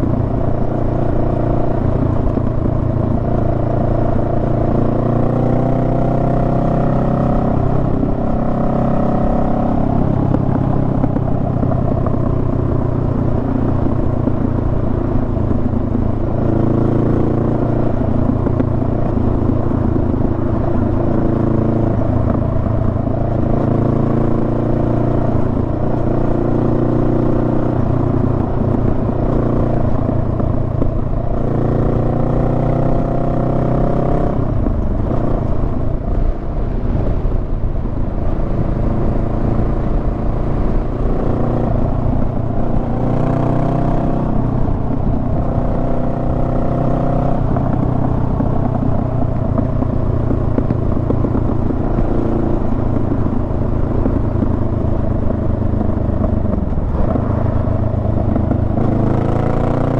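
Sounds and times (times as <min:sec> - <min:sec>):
motorcycle engine revving: 0:00.0 - 0:37.0, 0:37.6 - 0:59.9.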